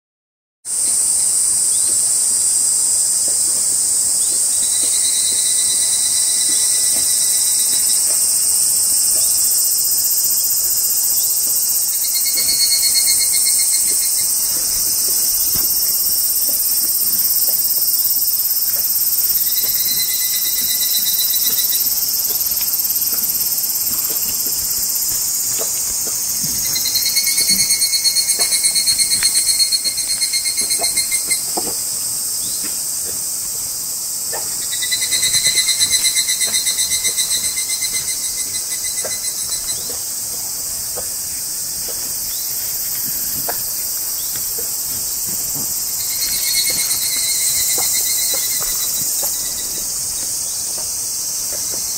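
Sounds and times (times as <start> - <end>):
cicadas chorus: 0.7 - 51.9
lower pulsing insect call: 0.7 - 51.9.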